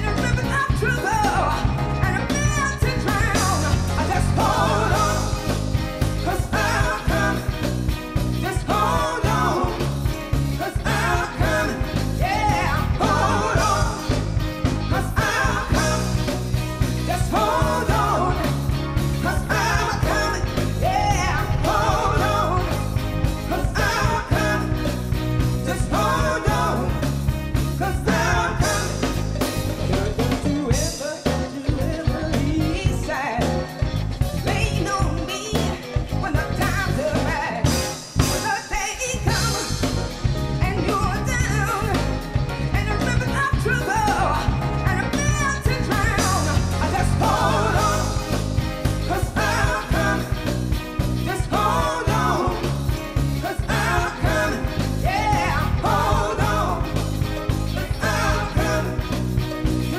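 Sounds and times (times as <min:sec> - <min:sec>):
band playing upbeat song: 0:00.0 - 0:59.9.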